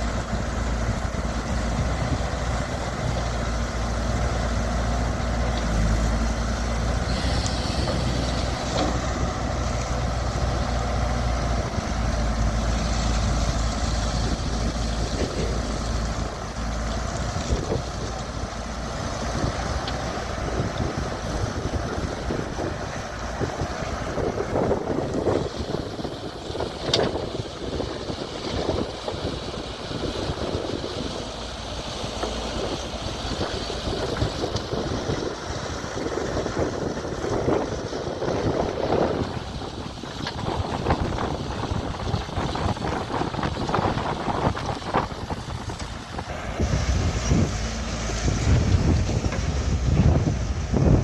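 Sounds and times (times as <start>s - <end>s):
diesel engine running: 0.0s - 51.0s
wind buffeting microphone: 0.0s - 51.0s.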